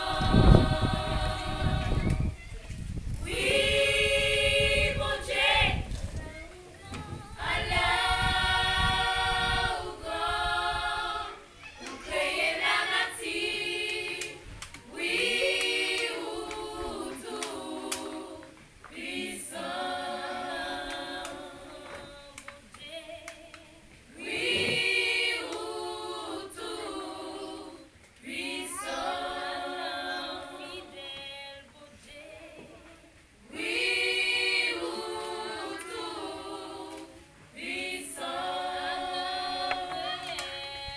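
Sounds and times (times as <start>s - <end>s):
women's choir singing a cappella: 0.0s - 2.4s, 3.0s - 40.9s.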